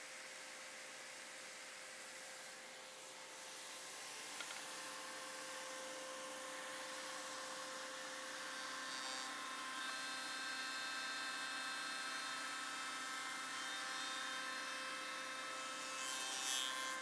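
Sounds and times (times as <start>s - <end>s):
machine motor hum with whine: 0.0s - 17.0s.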